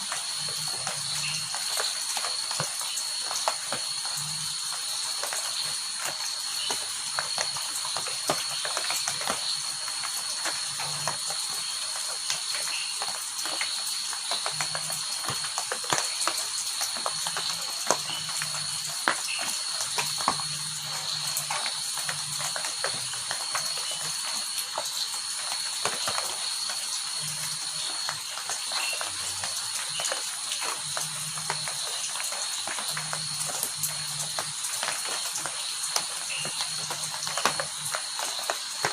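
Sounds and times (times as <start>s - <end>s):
heavy rain: 0.0s - 38.9s
raindrops ticking: 0.0s - 38.9s.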